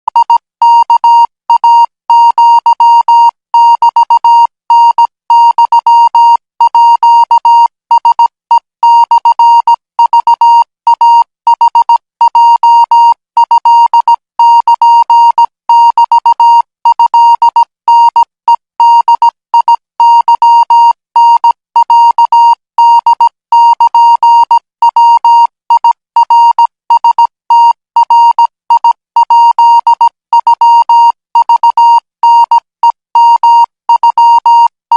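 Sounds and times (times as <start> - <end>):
morse code beeps: 0.1 - 34.8.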